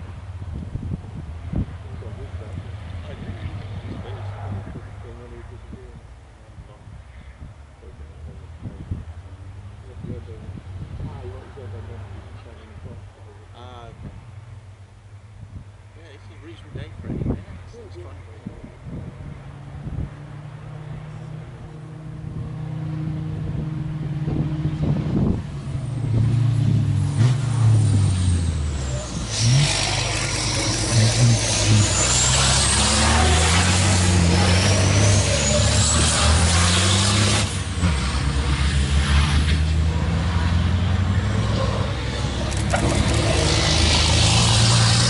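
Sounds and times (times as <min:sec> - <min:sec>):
race truck engines shifting gears: 0:00.0 - 0:45.0.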